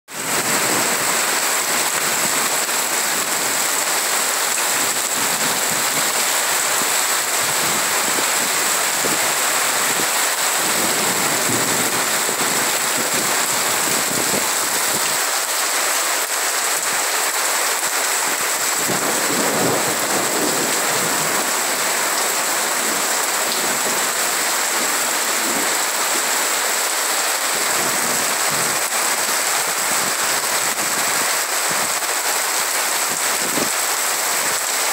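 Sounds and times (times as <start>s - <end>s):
heavy rain pouring: 0.1s - 34.9s
water streaming off a roof: 0.1s - 34.9s.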